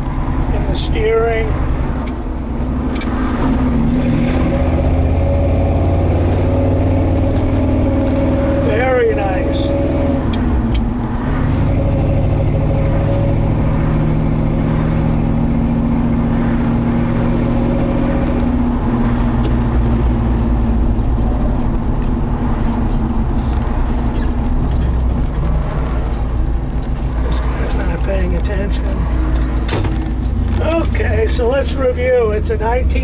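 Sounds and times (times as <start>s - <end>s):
road noise: 0.0s - 33.0s
truck engine running: 0.0s - 33.0s.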